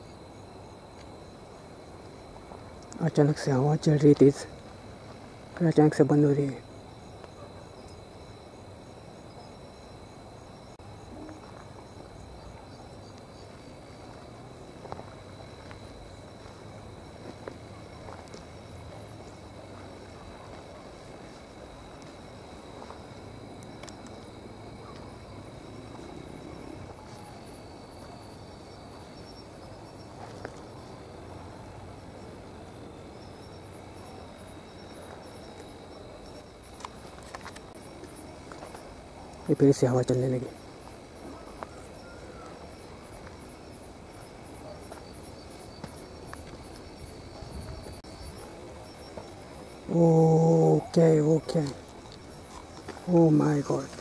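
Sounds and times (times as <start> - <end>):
insects buzzing and chirping: 0.0 - 54.0
low steady hiss: 0.0 - 54.0.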